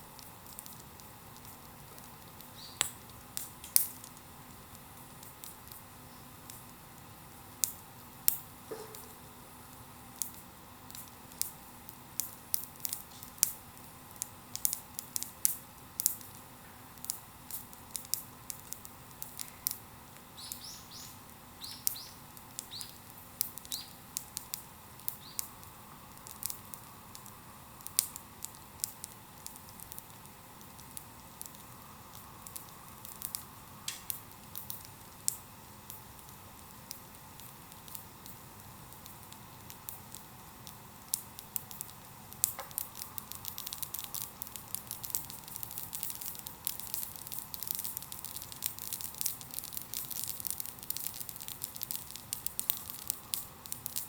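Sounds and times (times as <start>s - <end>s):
bonfire crackling: 0.0s - 54.0s.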